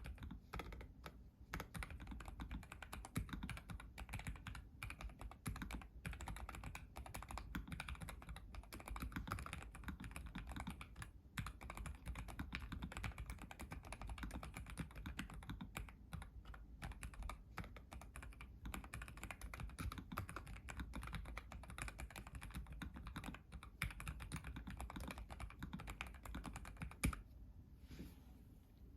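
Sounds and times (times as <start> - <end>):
mechanical keyboard typing: 0.0 - 27.2.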